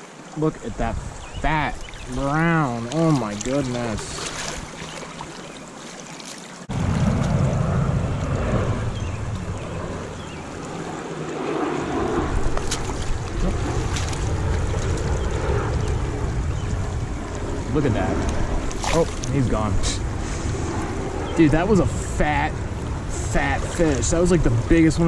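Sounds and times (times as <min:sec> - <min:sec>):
wind buffeting microphone: 0:00.5 - 0:05.3, 0:06.7 - 0:25.0.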